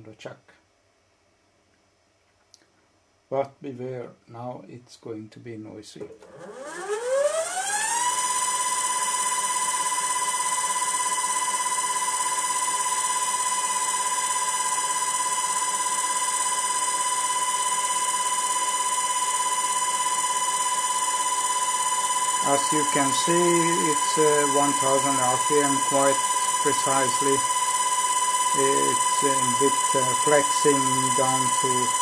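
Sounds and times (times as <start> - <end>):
servo motor high whine: 6.2 - 32.0.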